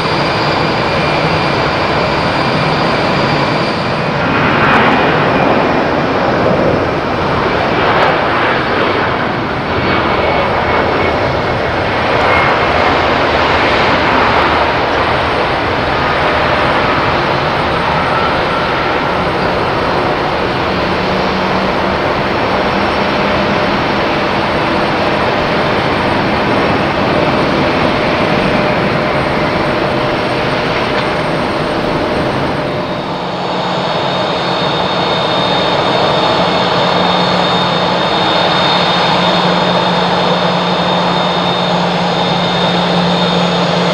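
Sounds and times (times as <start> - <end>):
jet engines roaring: 0.0 - 43.9.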